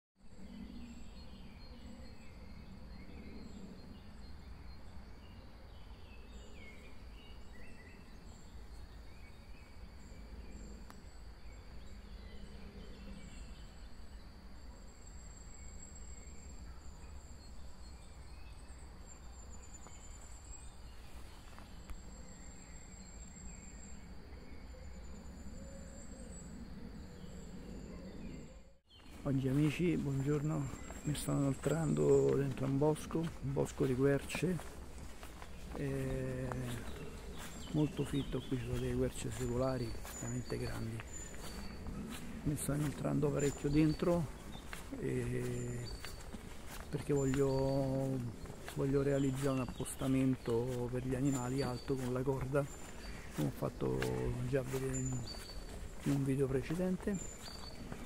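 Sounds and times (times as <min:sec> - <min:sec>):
insects chirring: 0:00.3 - 0:58.0
pulsing insect trill: 0:00.3 - 0:58.0.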